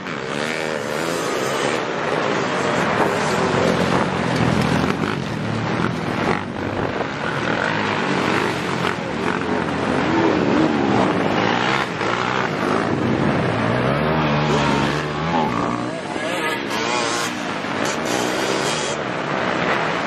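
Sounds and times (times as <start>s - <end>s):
motocross bikes revving and passing: 0.0s - 20.0s.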